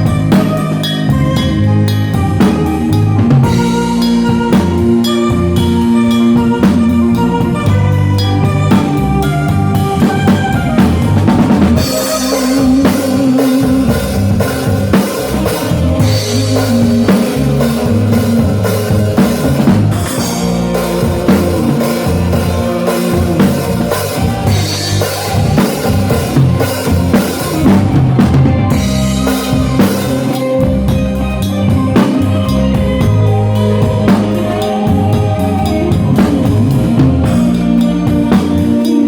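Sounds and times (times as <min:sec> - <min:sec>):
band playing loud music: 0:00.0 - 0:39.0
drum kit beat: 0:00.0 - 0:39.0.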